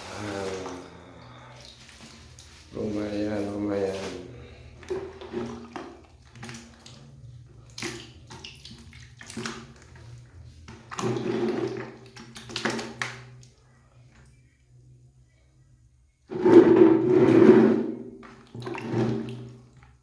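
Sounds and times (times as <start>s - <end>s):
water splashing and sloshing: 0.0s - 14.6s, 16.3s - 20.0s.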